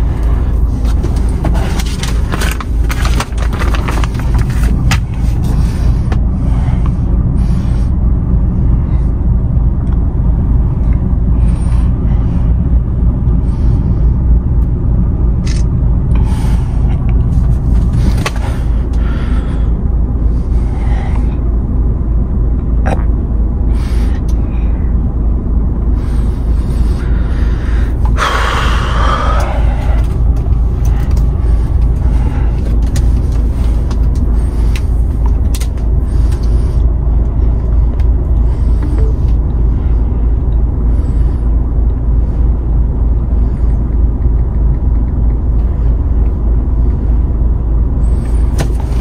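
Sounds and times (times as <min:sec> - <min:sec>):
truck diesel engine running: 0:00.0 - 0:49.0.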